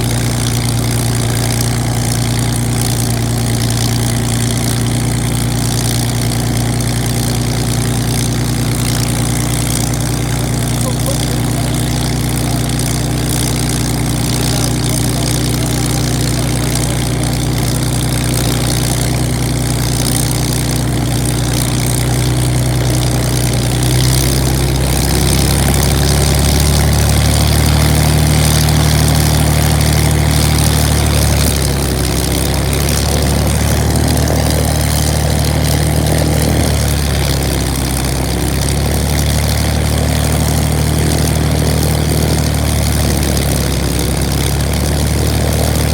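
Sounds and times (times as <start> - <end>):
propeller plane engine droning: 0.0 - 45.9.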